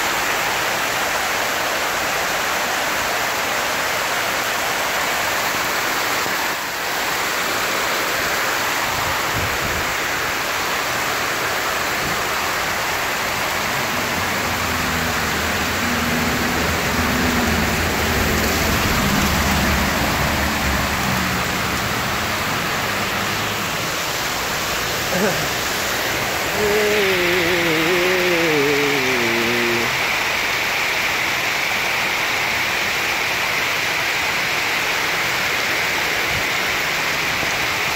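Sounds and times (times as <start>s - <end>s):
heavy rain: 0.0s - 37.9s.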